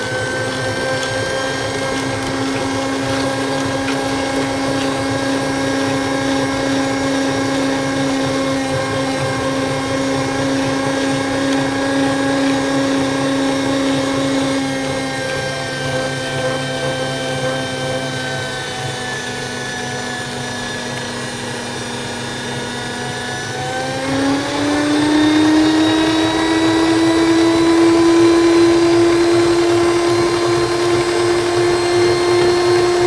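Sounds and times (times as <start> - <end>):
meat grinder motor humming: 0.0 - 33.0.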